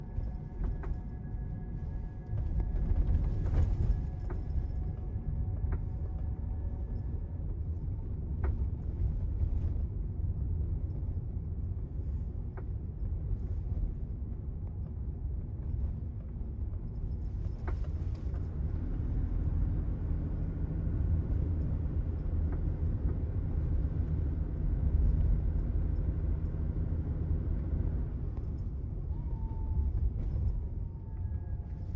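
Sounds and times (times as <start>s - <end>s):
road rumble inside car: 0.0s - 31.9s.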